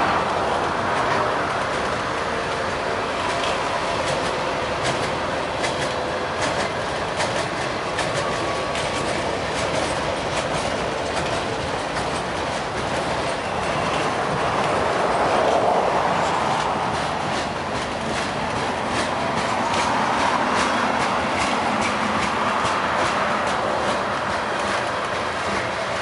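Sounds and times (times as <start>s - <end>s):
freight train rumbling past: 0.0s - 26.0s
train wheels clacking on rail joints: 0.0s - 26.0s.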